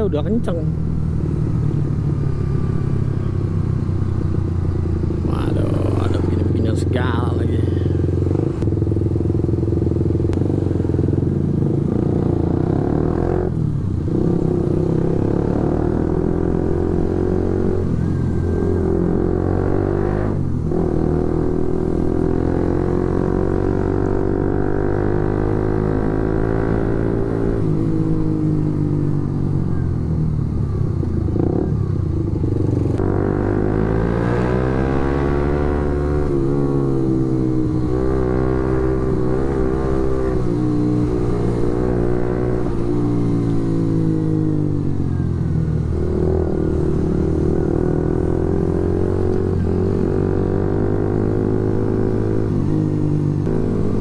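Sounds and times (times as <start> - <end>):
motorcycle engine revving: 0.0 - 29.9, 30.6 - 54.0.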